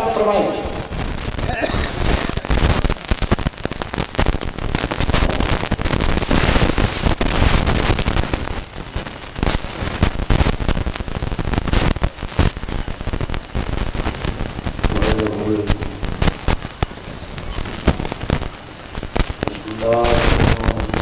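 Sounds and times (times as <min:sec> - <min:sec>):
microphone crackling noise: 0:00.6 - 0:21.0.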